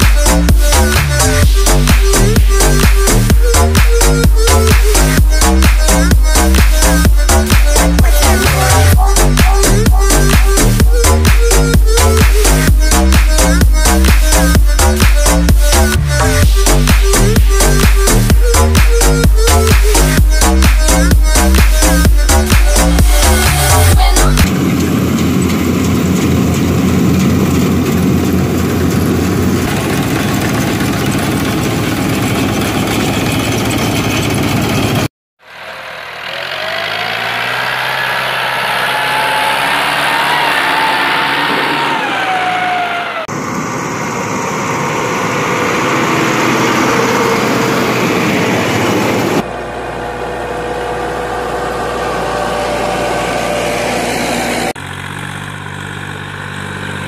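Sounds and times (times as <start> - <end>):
tractor engine running and revving: 0.0 - 57.0.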